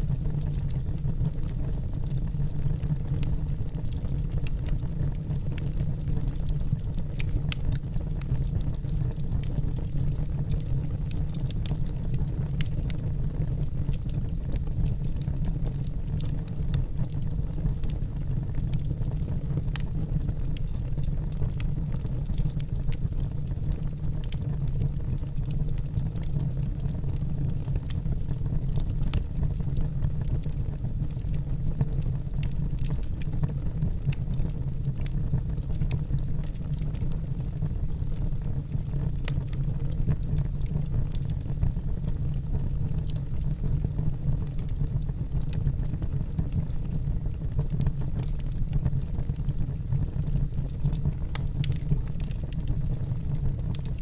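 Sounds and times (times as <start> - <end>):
campfire rumble: 0.0 - 54.0
fire crackling and popping: 0.0 - 54.0.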